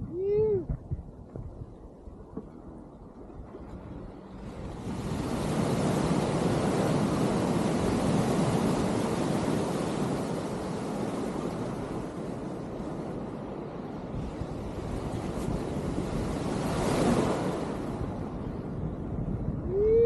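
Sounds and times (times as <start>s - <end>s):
wind and water rushing: 0.0s - 20.0s.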